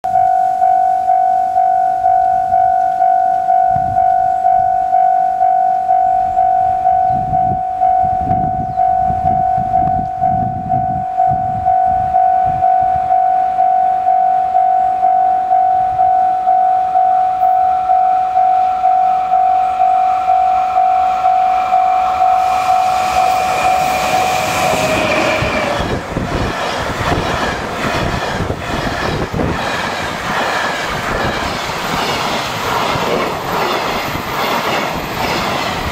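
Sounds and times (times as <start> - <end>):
freight train passing: 0.0 - 35.9
level-crossing warning bell: 0.0 - 35.9
train wheel rumble and rail clatter: 1.1 - 16.6, 17.4 - 35.9.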